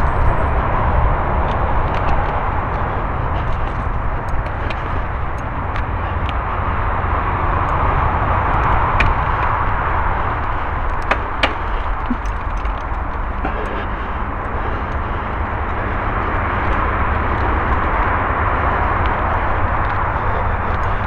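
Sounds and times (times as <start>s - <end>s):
bike clicks and rattles: 0.0s - 21.0s
bike tyres rolling on dirt: 0.0s - 21.0s
wind on microphone: 0.0s - 21.0s.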